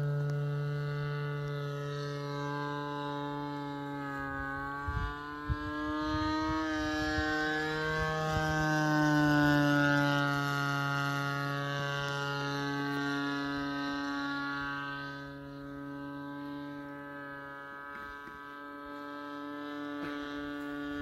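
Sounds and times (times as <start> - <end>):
model airplane engine buzzing: 0.0 - 21.0.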